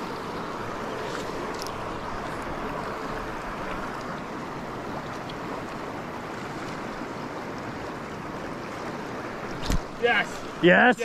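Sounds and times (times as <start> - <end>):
river current rushing: 0.0 - 11.0.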